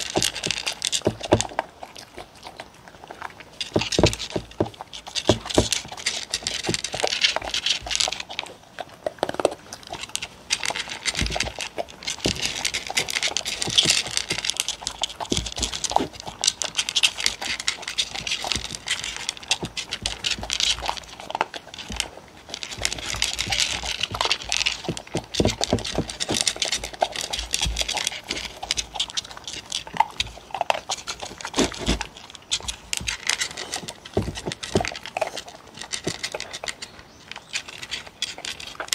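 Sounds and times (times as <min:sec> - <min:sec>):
dogs crunching dry kibble: 0:00.0 - 0:38.9
kibble clicking against bowls: 0:00.0 - 0:38.9.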